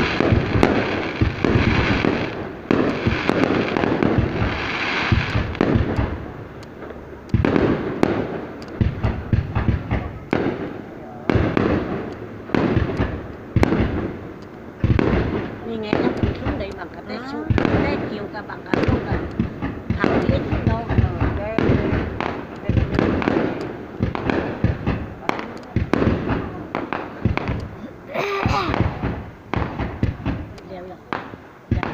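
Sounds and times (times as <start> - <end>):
fireworks crackling and banging: 0.0 - 31.9.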